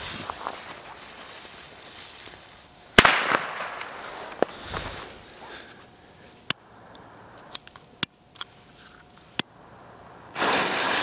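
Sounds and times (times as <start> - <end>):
loud steady hiss: 0.0 - 8.0, 9.6 - 11.0.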